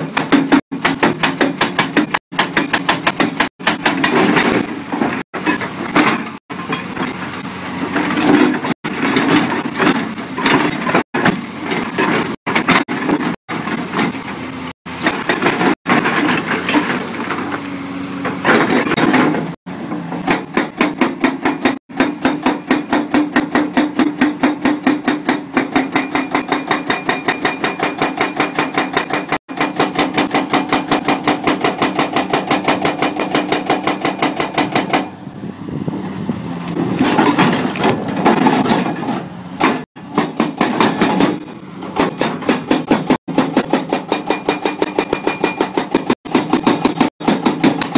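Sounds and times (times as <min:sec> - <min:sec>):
hydraulic rock breaker hammering: 0:00.0 - 0:35.2, 0:36.7 - 0:47.9
excavator engine: 0:00.0 - 0:47.9.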